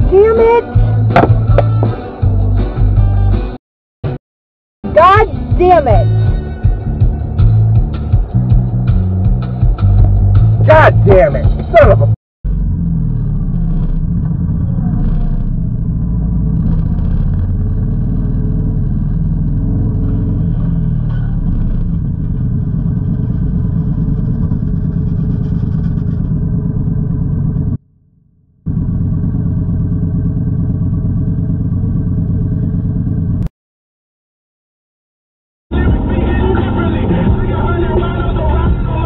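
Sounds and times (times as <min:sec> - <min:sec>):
motorcycle engine rumbling: 0:00.0 - 0:03.4, 0:04.9 - 0:33.5, 0:35.7 - 0:39.0.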